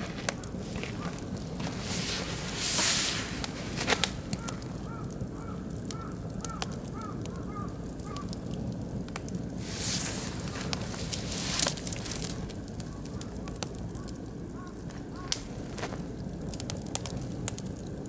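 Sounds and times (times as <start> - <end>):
bird calling: 0.0 - 8.3, 9.6 - 15.9
wood fire crackling with pops: 0.0 - 18.0.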